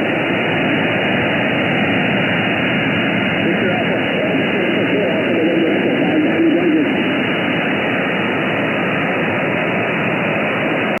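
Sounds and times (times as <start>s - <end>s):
garbled wavering radio signal: 0.0s - 11.0s
radio static hiss: 0.0s - 11.0s.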